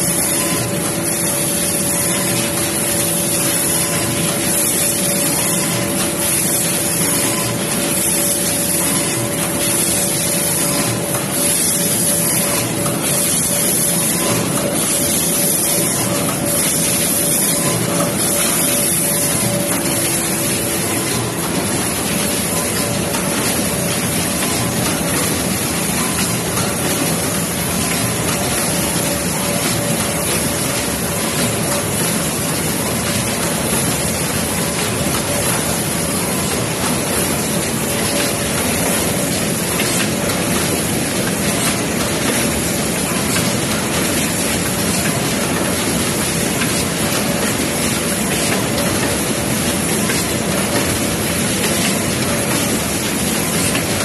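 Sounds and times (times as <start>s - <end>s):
production line machinery running: 0.0s - 54.0s.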